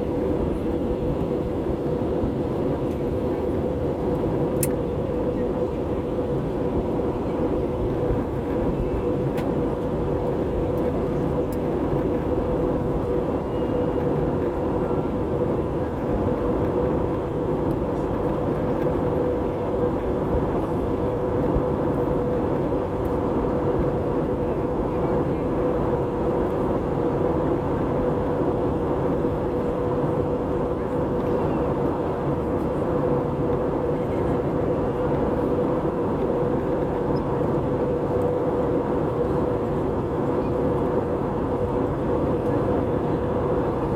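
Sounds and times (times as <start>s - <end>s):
constant hum: 0.0s - 43.9s
jet engines droning: 0.0s - 43.9s.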